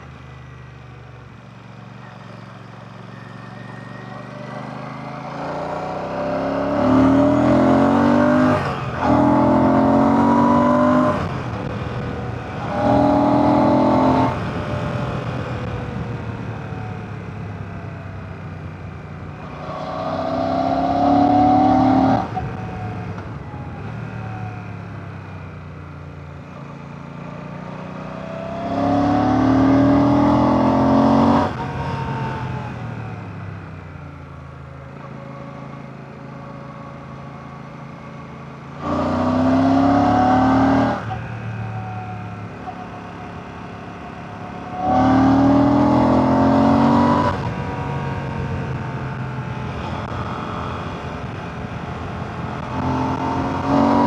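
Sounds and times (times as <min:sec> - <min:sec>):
motorcycle engine accelerating: 0:01.4 - 0:54.0.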